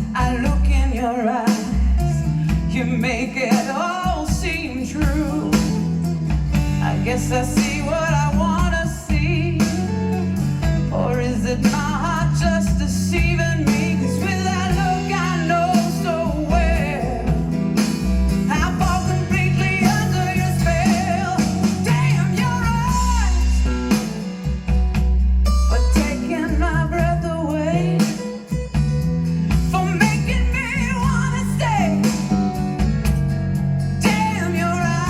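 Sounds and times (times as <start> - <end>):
band with guitar and heavy bass: 0.0 - 35.0.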